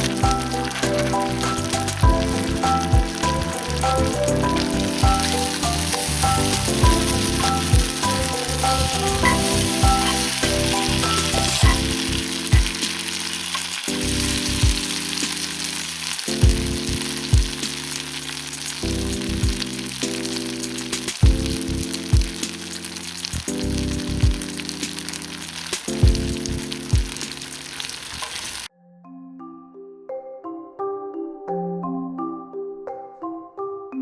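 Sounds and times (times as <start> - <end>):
meat sizzling over fire: 0.0 - 28.7
background music: 0.0 - 34.0.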